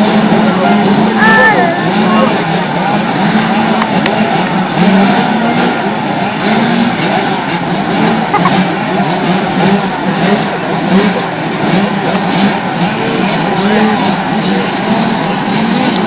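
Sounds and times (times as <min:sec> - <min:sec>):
motocross bikes revving: 0:00.0 - 0:16.0.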